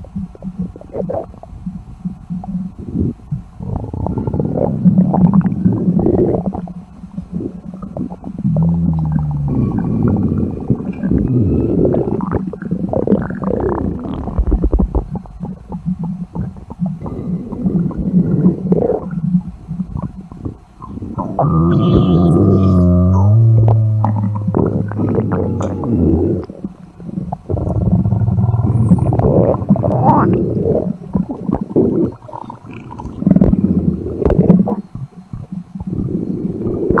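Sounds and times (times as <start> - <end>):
stomach growling: 0.0 - 37.0.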